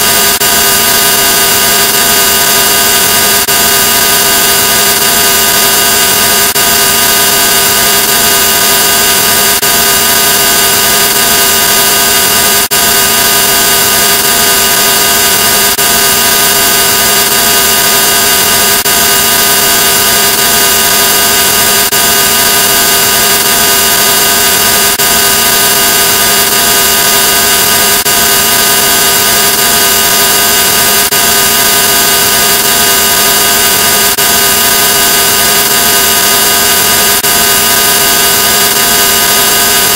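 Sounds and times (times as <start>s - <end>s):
harsh electronic drone: 0.0s - 39.9s.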